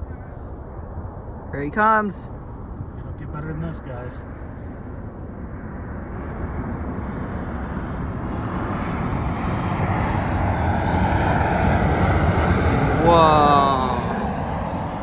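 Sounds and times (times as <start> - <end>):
jet airliner engine noise: 0.0 - 15.0.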